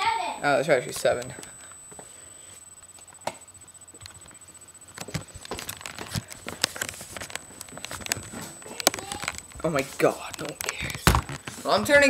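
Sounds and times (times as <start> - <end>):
rustling with clicks and crackles: 0.9 - 12.0.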